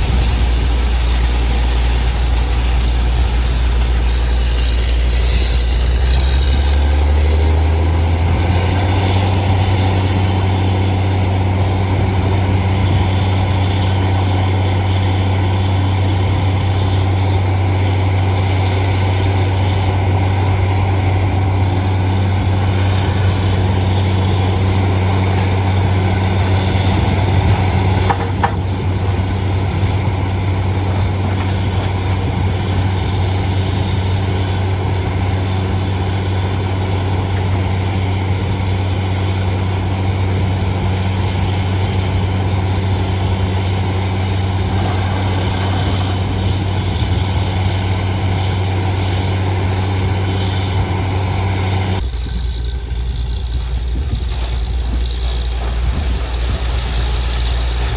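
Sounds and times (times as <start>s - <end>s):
drilling rig engine drone: 0.0s - 57.9s.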